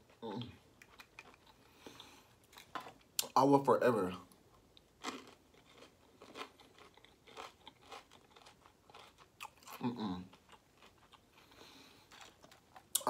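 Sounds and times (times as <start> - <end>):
person chewing crunchy food: 0.0 - 3.3, 4.3 - 13.0.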